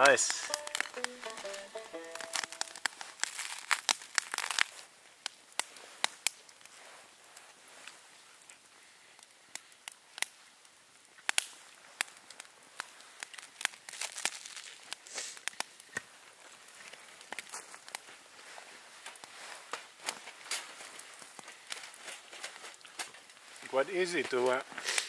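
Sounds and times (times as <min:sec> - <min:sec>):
wood crackling in campfire: 0:00.0 - 0:25.0.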